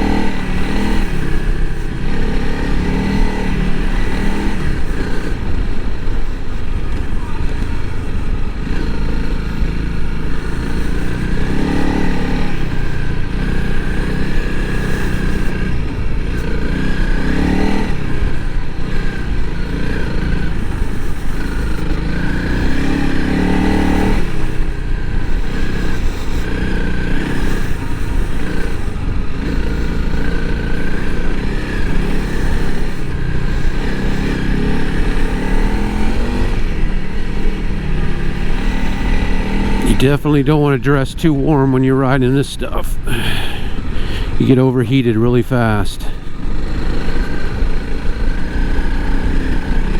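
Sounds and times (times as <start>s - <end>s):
motorcycle engine revving: 0.0s - 42.4s, 43.0s - 49.9s.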